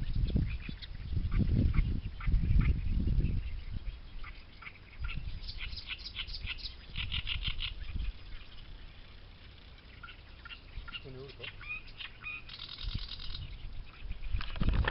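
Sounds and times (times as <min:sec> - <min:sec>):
reed warbler singing: 0:00.0 - 0:14.9.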